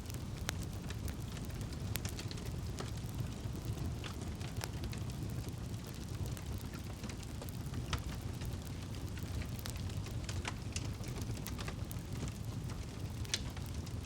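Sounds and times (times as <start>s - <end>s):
burning wood crackling and popping: 0.0s - 14.0s
campfire flames rumbling: 0.0s - 14.0s.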